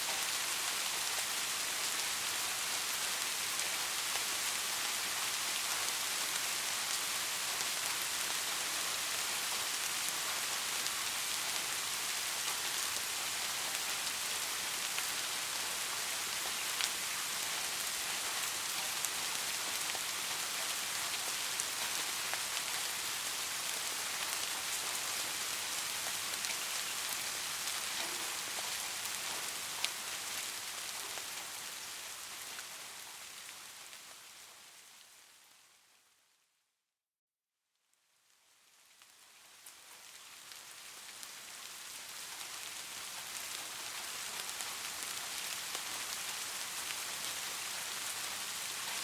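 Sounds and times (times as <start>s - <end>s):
steady rain falling: 0.0s - 36.4s, 37.8s - 49.0s.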